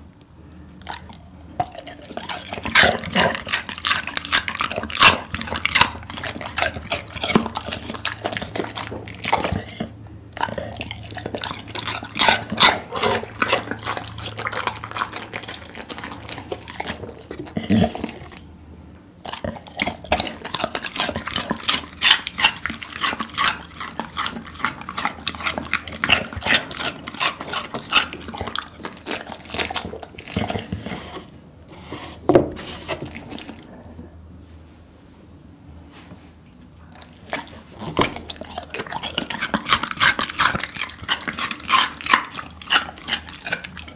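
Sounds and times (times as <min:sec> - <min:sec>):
dog chewing crunchy food: 0:00.6 - 0:34.0, 0:36.9 - 0:43.9.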